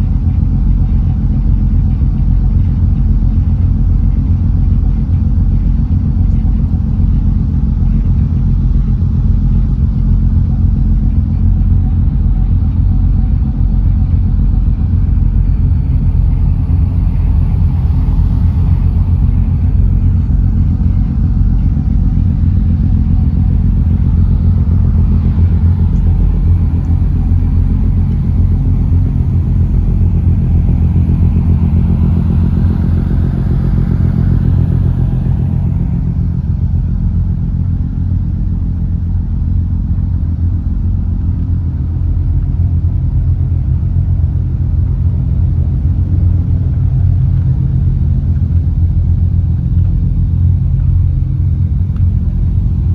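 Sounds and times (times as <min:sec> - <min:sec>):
engine low drone: 0:00.0 - 0:52.9.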